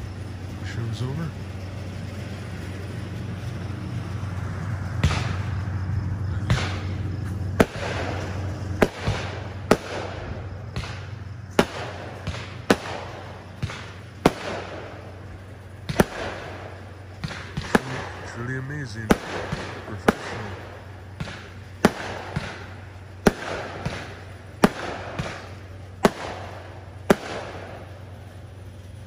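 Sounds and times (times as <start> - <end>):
fireworks bangs: 0.0 - 29.0
fireworks rushing hiss: 0.0 - 29.0.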